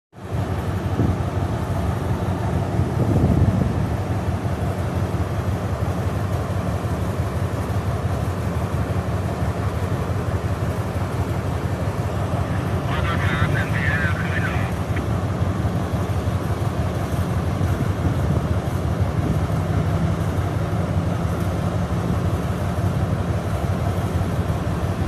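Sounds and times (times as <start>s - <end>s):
diesel locomotive engine rumbling: 0.2s - 25.0s.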